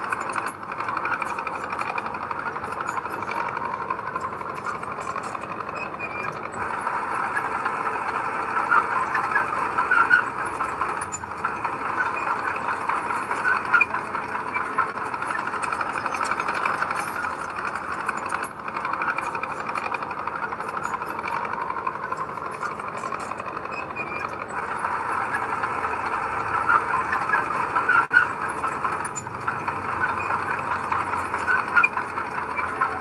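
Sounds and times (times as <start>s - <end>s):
heavy machinery diesel engine running: 0.0s - 33.0s.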